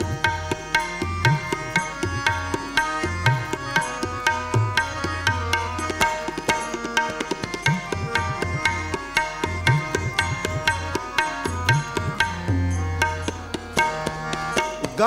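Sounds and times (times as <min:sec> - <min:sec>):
harmonium chords: 0:00.0 - 0:15.0
tabla playing quick rhythm: 0:00.0 - 0:15.0.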